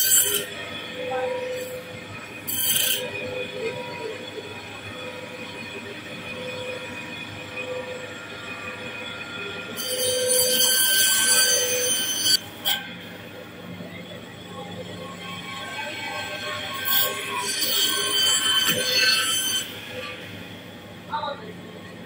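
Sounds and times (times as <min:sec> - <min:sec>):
band saw cutting fish: 0:00.0 - 0:12.8, 0:15.4 - 0:20.4.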